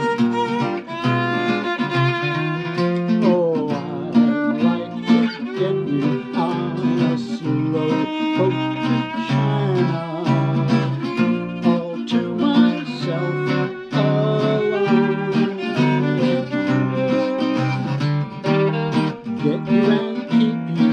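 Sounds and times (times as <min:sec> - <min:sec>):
acoustic guitar strumming: 0:00.0 - 0:20.9
violin melody with sliding notes: 0:00.0 - 0:20.9.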